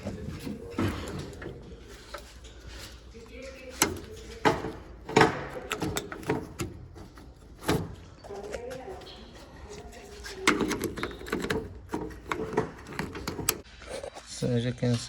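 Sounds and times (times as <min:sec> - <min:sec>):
metal clicks and clunks: 0:00.0 - 0:13.7.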